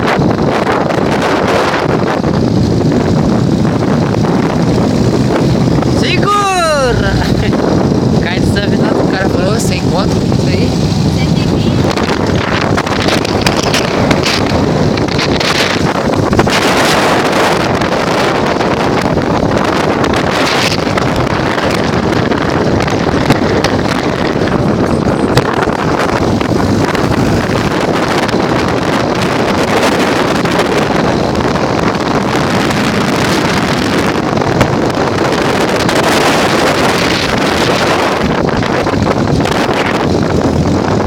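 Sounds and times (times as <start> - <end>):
buggy engine and tyres: 0.0 - 41.0
wind buffeting microphone: 0.0 - 41.0.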